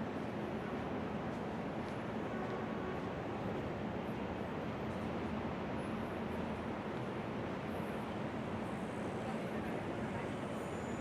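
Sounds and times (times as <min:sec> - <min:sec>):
hum of distant traffic: 0:00.0 - 0:11.0.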